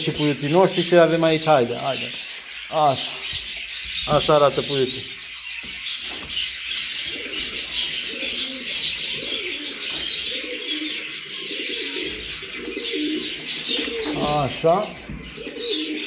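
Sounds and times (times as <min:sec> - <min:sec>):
high chirping calls: 0:00.0 - 0:16.0
pigeons cooing: 0:00.0 - 0:16.0.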